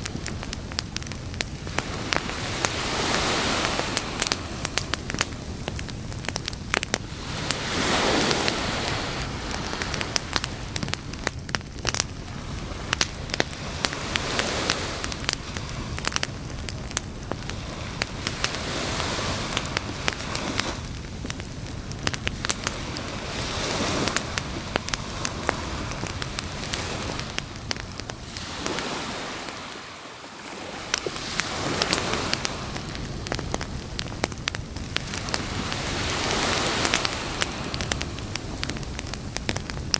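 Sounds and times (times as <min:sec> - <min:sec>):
surf rushing: 0:00.0 - 0:39.8
campfire crackling and popping: 0:00.0 - 0:39.9.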